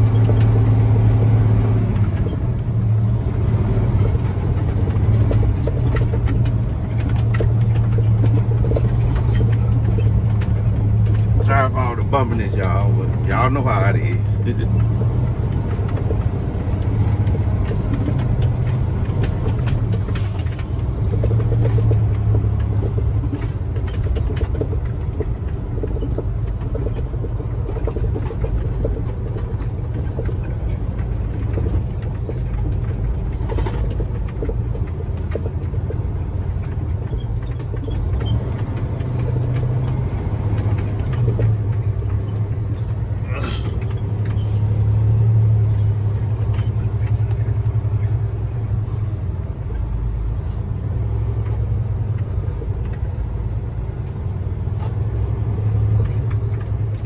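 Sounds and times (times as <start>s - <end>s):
knocks and rattles: 0.0s - 57.0s
truck diesel engine running: 0.0s - 57.0s.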